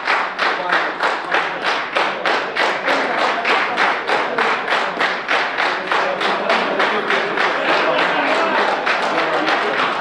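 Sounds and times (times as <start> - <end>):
rhythmic handclapping: 0.0 - 10.0.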